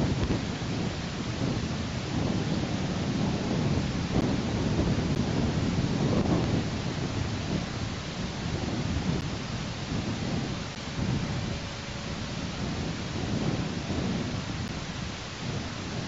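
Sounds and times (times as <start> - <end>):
deep uneven rumble: 0.0 - 16.0.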